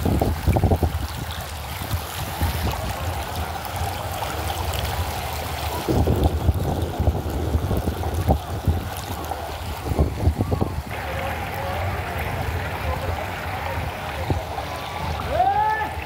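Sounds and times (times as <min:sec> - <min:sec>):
floodwater rushing: 0:00.0 - 0:16.0
wind buffeting microphone: 0:00.0 - 0:16.0.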